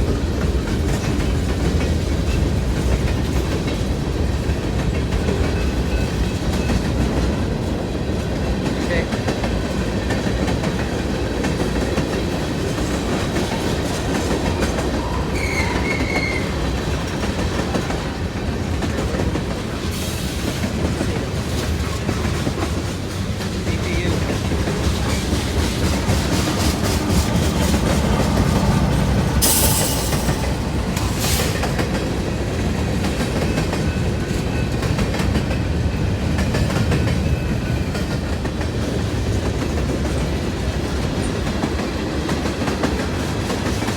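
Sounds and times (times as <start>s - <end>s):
freight train wheels clattering: 0.0s - 43.9s.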